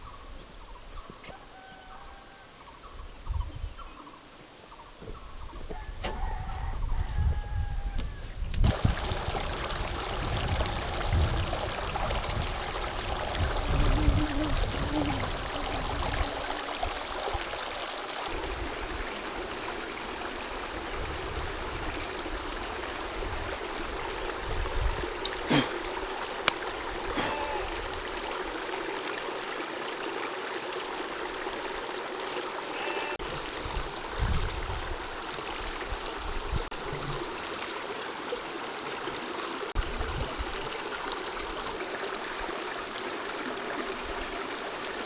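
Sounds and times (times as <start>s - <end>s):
stream running over rocks: 8.6s - 45.0s.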